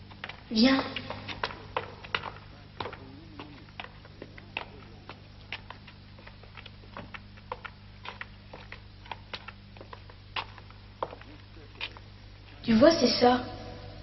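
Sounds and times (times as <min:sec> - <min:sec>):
footsteps climbing stairs: 0:00.0 - 0:12.1
steady low hum: 0:00.0 - 0:14.0.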